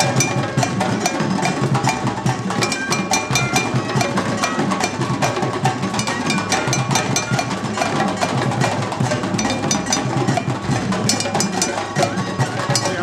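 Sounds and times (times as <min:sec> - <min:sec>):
group hand drumming: 0:00.0 - 0:13.0.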